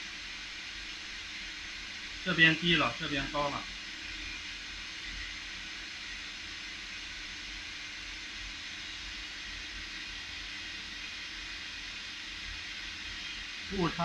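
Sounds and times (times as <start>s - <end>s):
machine shop hiss: 0.0s - 14.0s.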